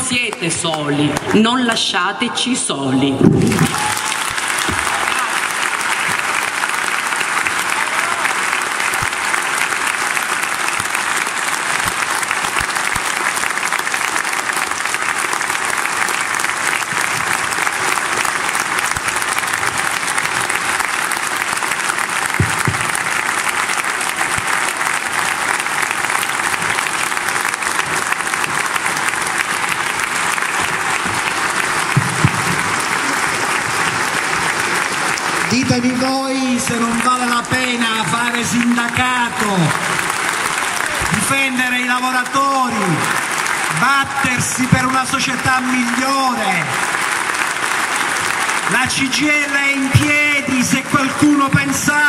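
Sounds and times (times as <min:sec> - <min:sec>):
audience applauding: 0:03.2 - 0:52.0.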